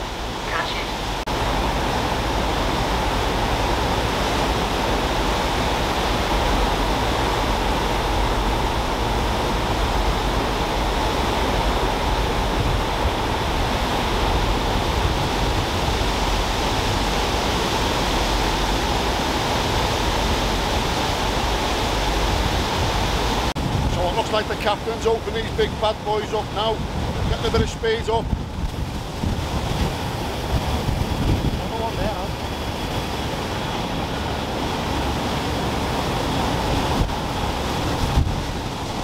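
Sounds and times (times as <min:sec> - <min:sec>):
churned sea water rushing: 0:00.0 - 0:39.0
wind: 0:00.0 - 0:39.0.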